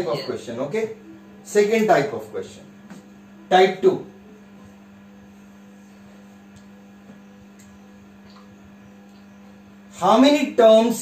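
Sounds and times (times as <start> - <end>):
low electrical hum with hiss: 0.0 - 11.0.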